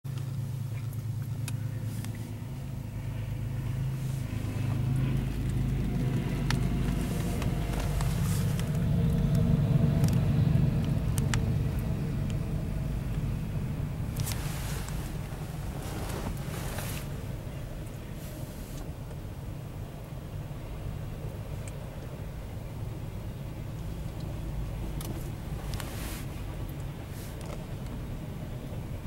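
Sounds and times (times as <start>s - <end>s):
diesel locomotive engine drone: 0.1s - 29.0s.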